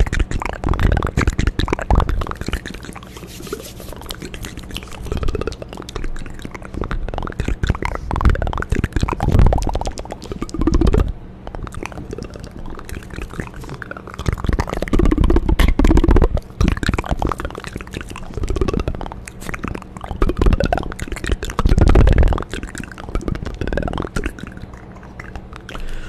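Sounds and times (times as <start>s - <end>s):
wet mouth clicks and smacks: 0.0s - 26.0s.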